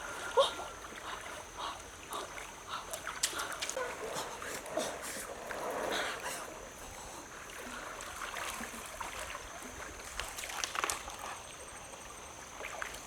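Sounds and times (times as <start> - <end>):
water noise: 0.0 - 13.0.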